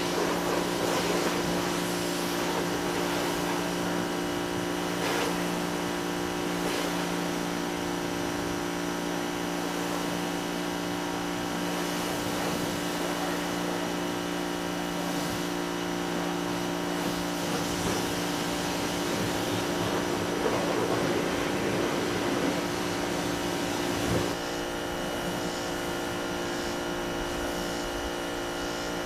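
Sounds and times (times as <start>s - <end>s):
pressure washer motor hum: 0.0s - 29.0s
water spray hiss: 0.0s - 29.0s.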